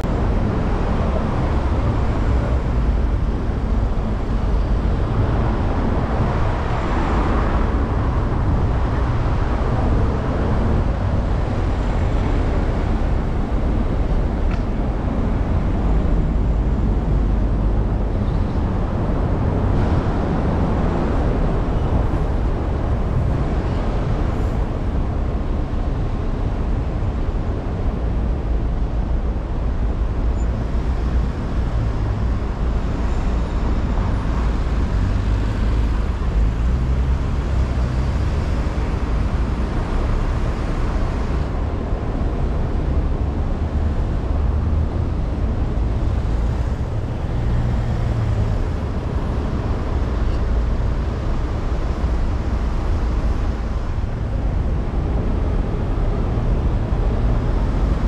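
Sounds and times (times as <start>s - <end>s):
car driving in city traffic: 0.0s - 58.0s.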